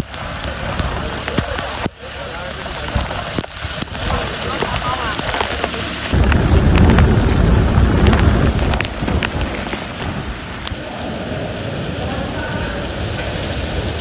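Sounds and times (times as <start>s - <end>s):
deep low rumble: 0.0s - 14.0s
heavy rain pouring: 0.0s - 14.0s
raindrops ticking on microphone: 0.0s - 14.0s.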